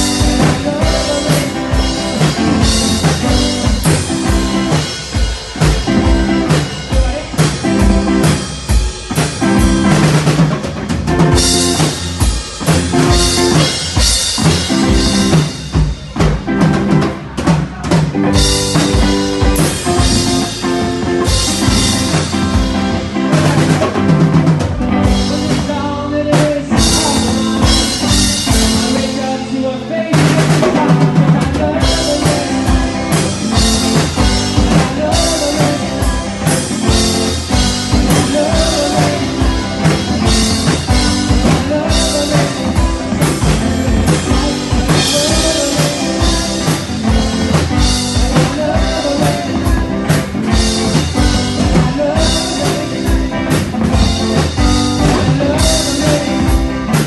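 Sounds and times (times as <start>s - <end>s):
bass drum: 0.0s - 29.2s, 30.1s - 57.0s
band playing: 0.0s - 57.0s.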